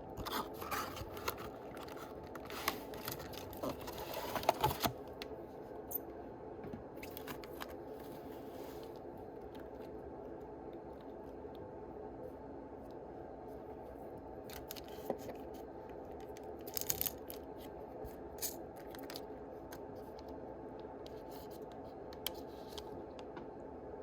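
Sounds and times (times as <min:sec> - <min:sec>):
background hum: 0:00.0 - 0:24.0.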